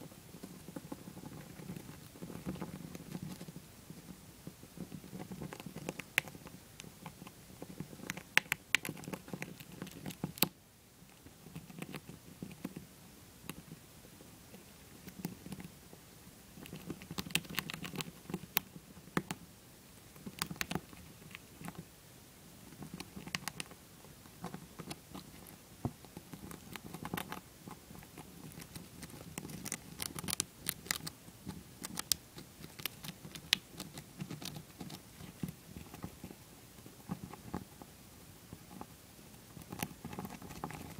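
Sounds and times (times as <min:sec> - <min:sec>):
hamster gnawing a peanut: 0:00.0 - 0:40.9.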